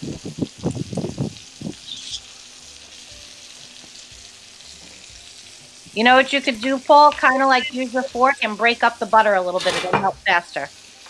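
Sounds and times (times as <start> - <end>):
chicken frying in a skillet: 0.0 - 11.0.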